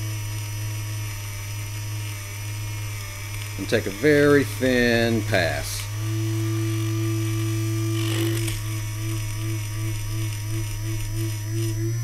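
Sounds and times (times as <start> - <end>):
cutting bit rasp: 0.0 - 12.0
electric motor humming and whining: 0.0 - 12.0.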